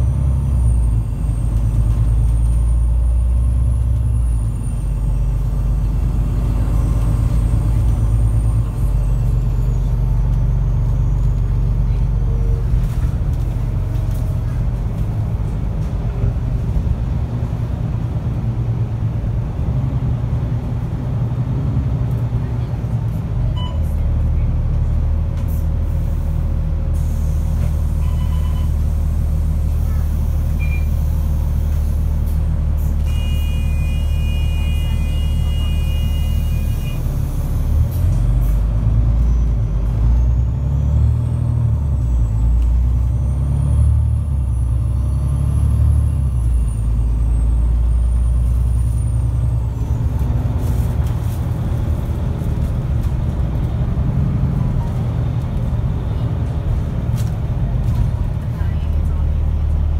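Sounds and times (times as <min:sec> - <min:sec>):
bus engine rumble: 0:00.0 - 0:59.9.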